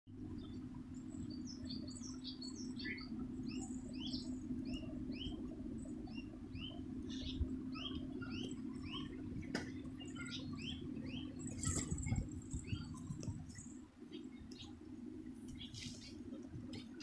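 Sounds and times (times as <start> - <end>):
steady low hum: 0.1 - 17.0
small birds chirping: 0.2 - 17.0.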